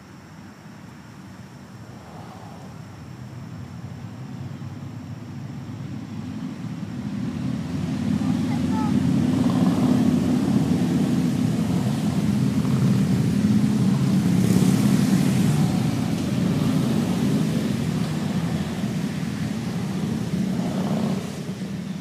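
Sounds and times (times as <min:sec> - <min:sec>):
low engine drone: 0:01.6 - 0:22.0.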